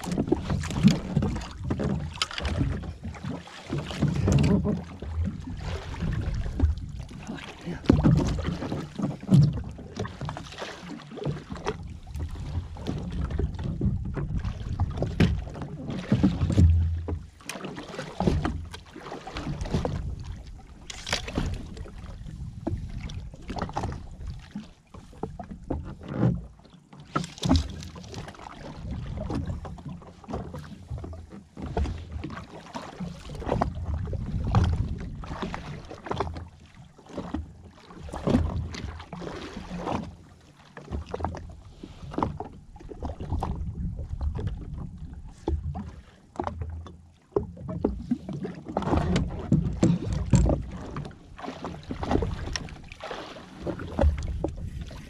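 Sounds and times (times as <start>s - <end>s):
small waves slapping against hull: 0.0s - 55.0s.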